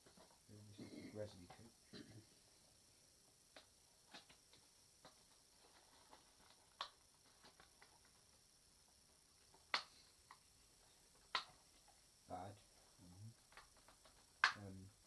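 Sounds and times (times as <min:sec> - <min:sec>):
faint sharp clicks and taps: 0:00.0 - 0:02.2, 0:03.5 - 0:12.0, 0:12.8 - 0:14.9.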